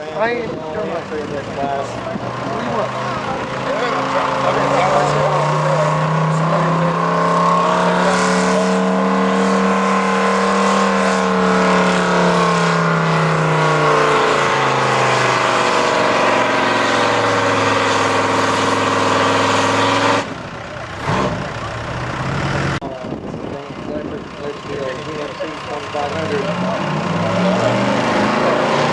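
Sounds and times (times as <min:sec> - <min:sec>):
truck engine revving under load: 0:00.0 - 0:22.9, 0:23.9 - 0:28.9.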